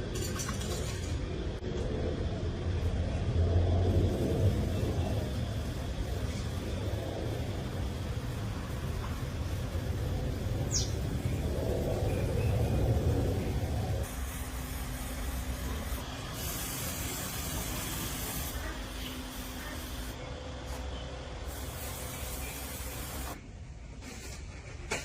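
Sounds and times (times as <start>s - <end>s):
low hum: 0.0s - 23.4s
hissing spray: 3.0s - 23.4s.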